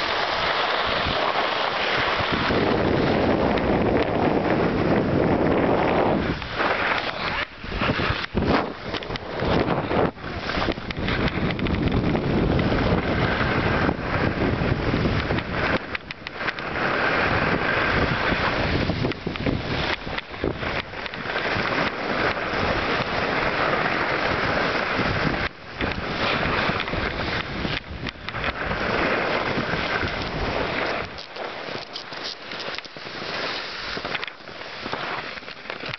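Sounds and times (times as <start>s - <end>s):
skis hissing on packed snow: 0.0s - 3.5s, 4.4s - 11.2s, 16.4s - 27.8s, 28.4s - 35.9s
wind buffeting microphone: 0.0s - 35.9s.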